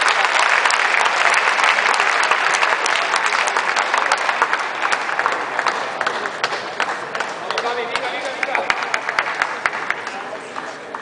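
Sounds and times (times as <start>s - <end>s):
spectators clapping: 0.0s - 11.0s.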